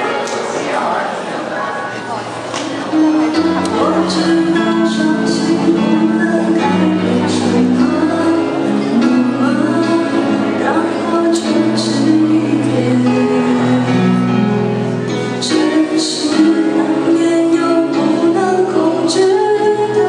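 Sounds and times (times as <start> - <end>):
instrumental backing track: 1.6 - 20.0
girl singing into microphone: 2.8 - 20.0.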